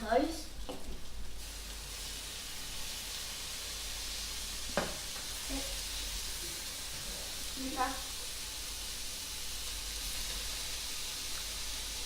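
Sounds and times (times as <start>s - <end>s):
sausages sizzling in a pan: 0.0s - 12.0s.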